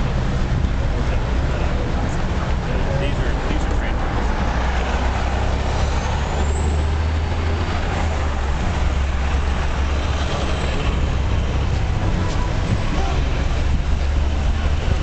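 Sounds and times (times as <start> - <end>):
buses passing: 0.0 - 15.0
road noise: 0.0 - 15.0.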